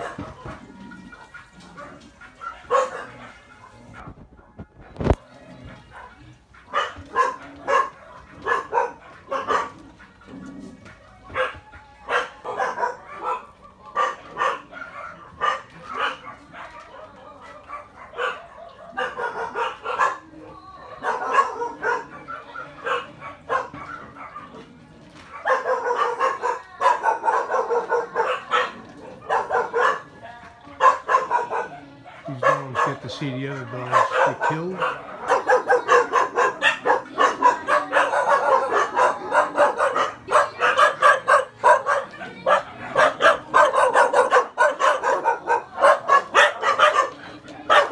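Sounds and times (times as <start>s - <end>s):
dogs barking: 0.0s - 47.9s.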